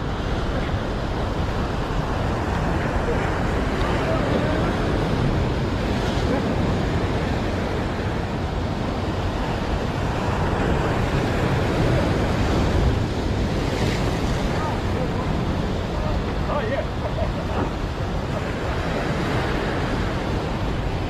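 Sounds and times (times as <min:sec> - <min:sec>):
ocean surf breaking on rocks: 0:00.0 - 0:21.0
wind rumbling on microphone: 0:00.0 - 0:21.0.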